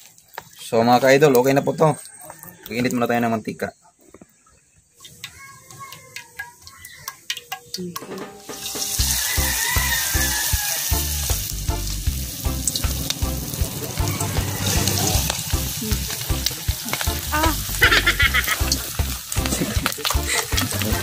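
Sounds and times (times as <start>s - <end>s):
oil sizzling and crackling: 0.0s - 1.5s, 4.9s - 21.0s.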